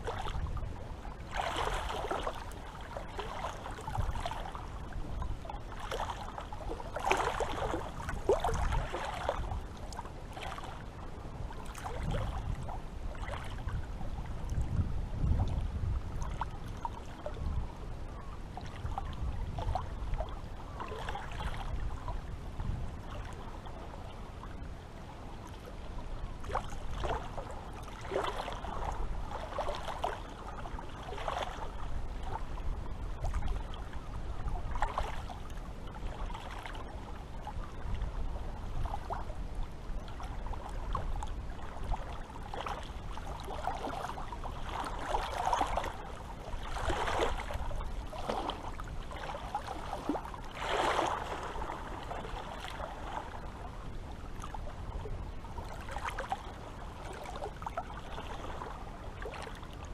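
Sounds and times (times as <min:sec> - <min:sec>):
seawater lapping and splashing: 0:00.0 - 0:59.9.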